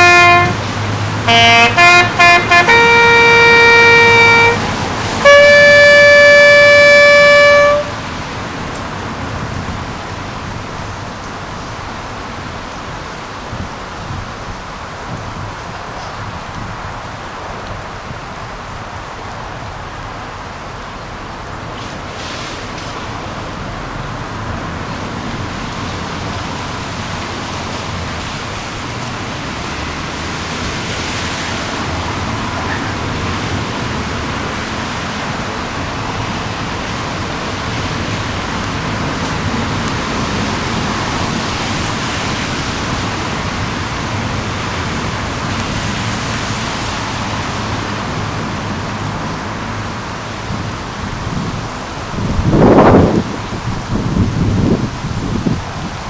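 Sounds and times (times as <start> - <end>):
road traffic hiss and rumble: 0.0 - 56.0.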